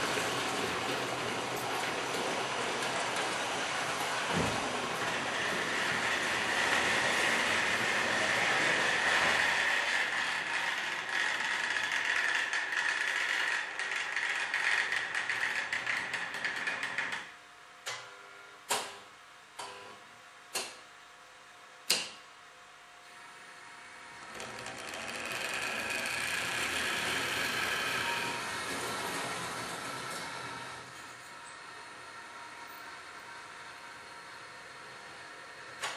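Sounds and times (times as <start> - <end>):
model train motors whirring: 0.0 - 17.2, 23.2 - 35.9.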